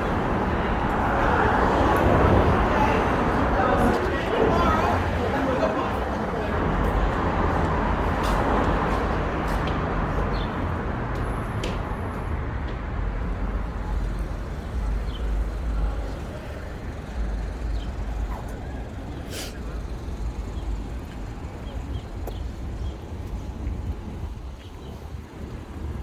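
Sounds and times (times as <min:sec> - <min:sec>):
passing traffic rumble: 0:00.0 - 0:26.0.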